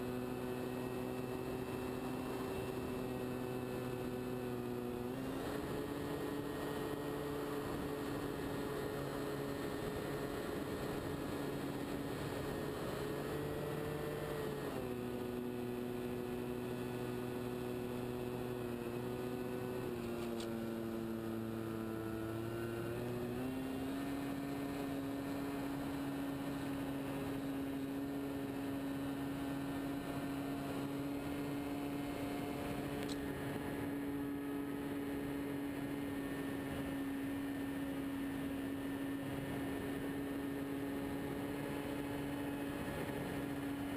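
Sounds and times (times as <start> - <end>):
model plane engine drone: 0.0 - 43.9.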